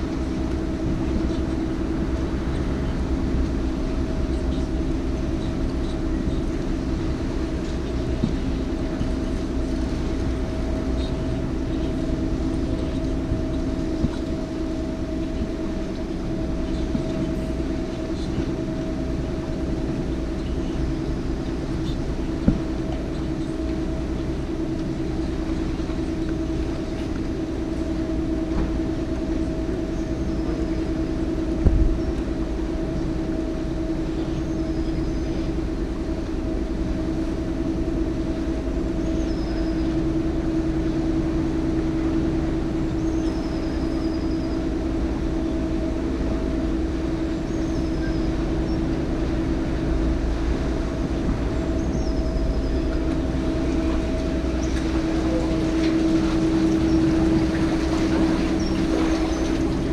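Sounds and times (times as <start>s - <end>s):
boat motor rumbling: 0.0s - 59.9s.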